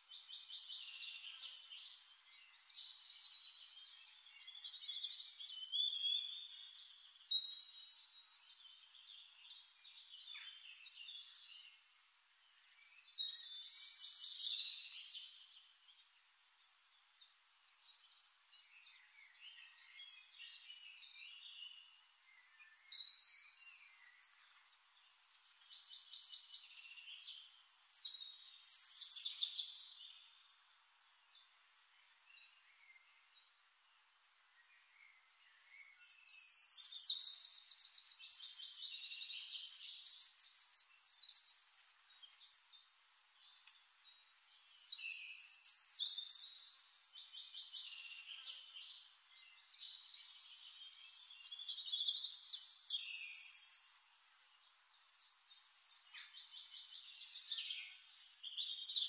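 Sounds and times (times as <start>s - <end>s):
birds chirping and singing: 0.0s - 33.5s, 34.7s - 59.0s.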